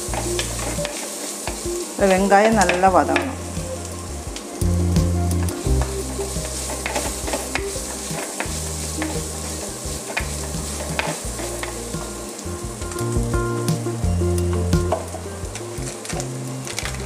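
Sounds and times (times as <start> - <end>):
background music with bass: 0.0 - 17.0
vegetables sizzling in oil: 0.0 - 17.0.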